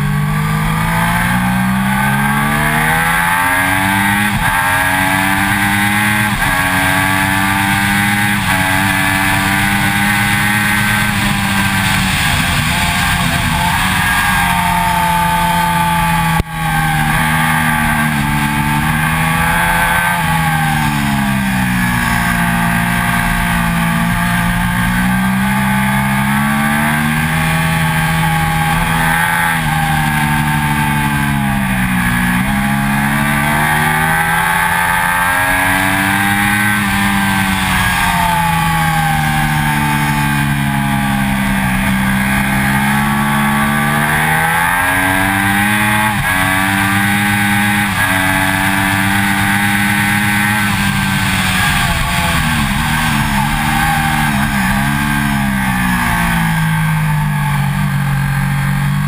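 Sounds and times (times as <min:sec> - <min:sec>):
motorcycle engine at high revs: 0:00.0 - 0:59.0
wind and road rush: 0:00.0 - 0:59.0.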